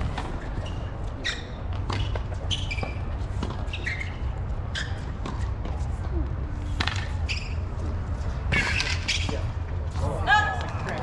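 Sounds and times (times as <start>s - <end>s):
sneakers squeaking on court: 0.0s - 9.6s.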